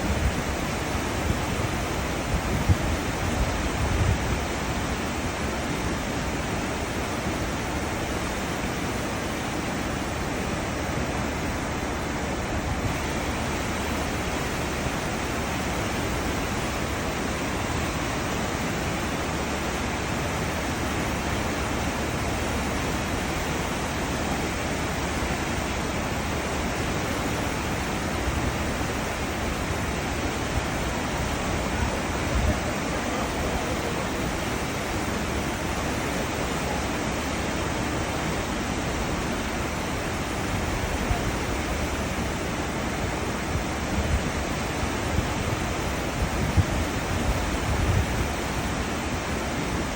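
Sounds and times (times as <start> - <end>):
seawater rushing: 0.0 - 49.9.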